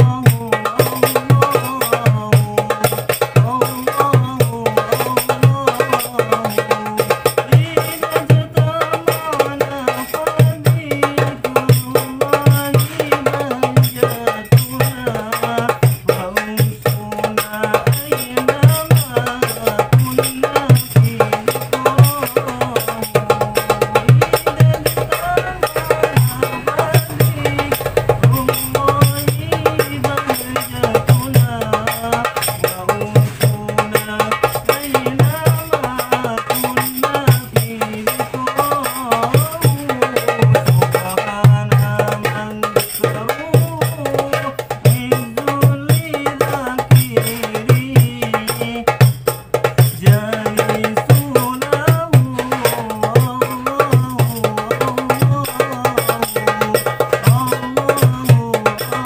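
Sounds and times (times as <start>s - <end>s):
frame drum ensemble: 0.0s - 59.0s
vocal melody over drumming: 0.0s - 59.0s.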